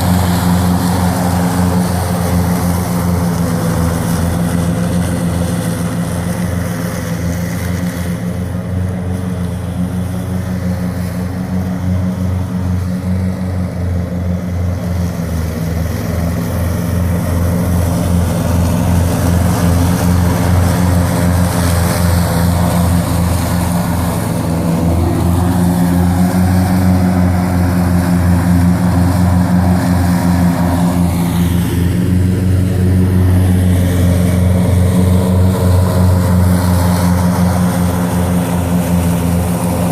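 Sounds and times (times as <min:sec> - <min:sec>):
ride-on mower engine running: 0:00.0 - 0:39.9.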